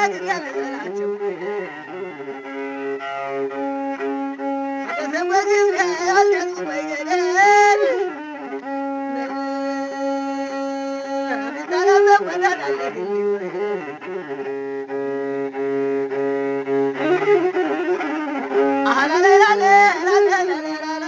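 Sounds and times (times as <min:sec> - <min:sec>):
bowed fiddle melody: 0:00.0 - 0:21.0.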